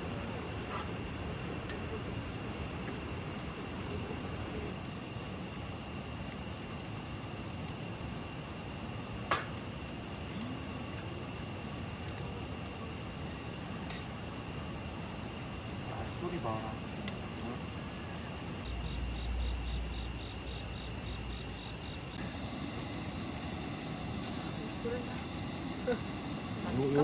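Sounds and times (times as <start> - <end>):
night insects chirping: 0.0 - 27.0.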